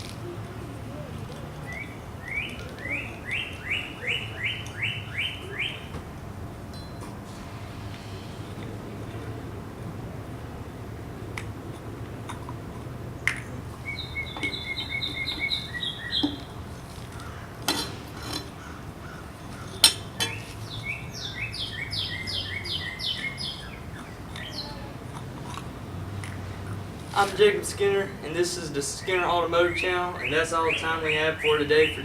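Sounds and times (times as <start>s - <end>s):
songbird singing: 0.0s - 7.0s, 7.6s - 32.0s.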